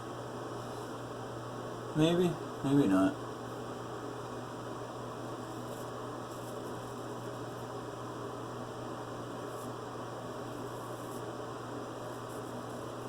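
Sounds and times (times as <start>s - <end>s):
mains hum and hiss: 0.0s - 13.0s.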